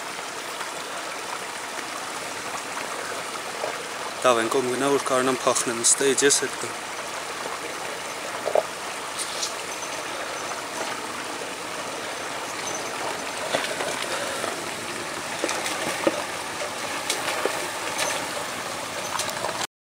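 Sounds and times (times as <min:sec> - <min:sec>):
stream running over rocks: 0:00.0 - 0:19.7.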